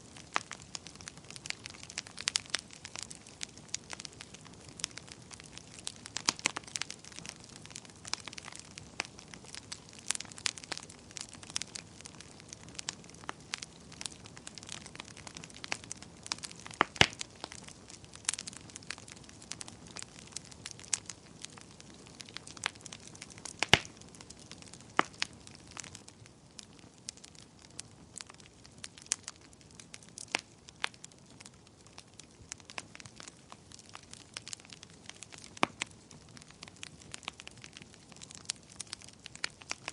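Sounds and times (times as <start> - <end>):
campfire crackling and popping: 0.0 - 39.9
faint fire hiss: 0.0 - 39.9.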